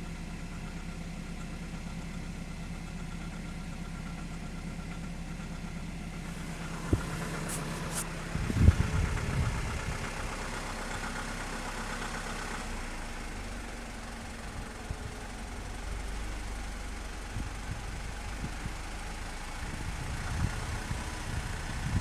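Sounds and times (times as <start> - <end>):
car engine idling: 0.0 - 22.0
engine knocking: 0.0 - 22.0.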